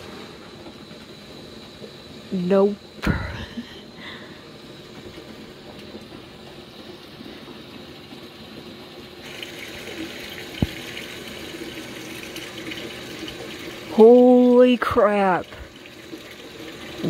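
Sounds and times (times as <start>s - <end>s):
water rushing into washing machine: 0.0s - 17.0s.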